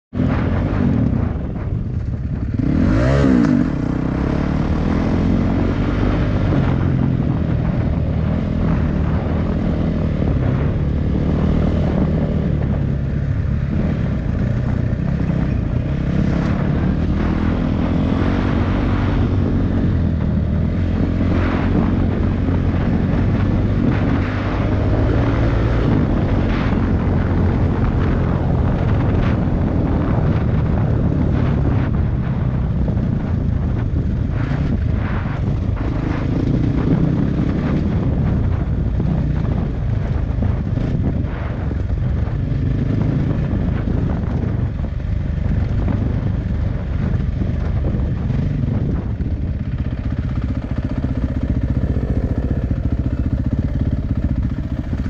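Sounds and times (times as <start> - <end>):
two-stroke motorcycle engine running: 0.1 - 55.0.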